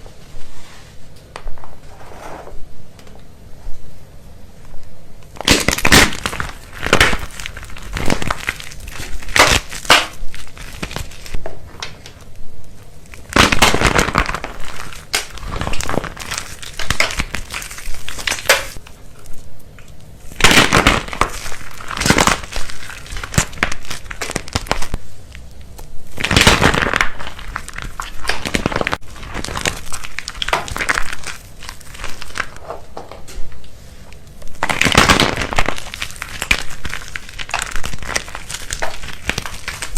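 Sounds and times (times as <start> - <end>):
dry soap crackling: 5.2 - 32.8, 33.5 - 39.9.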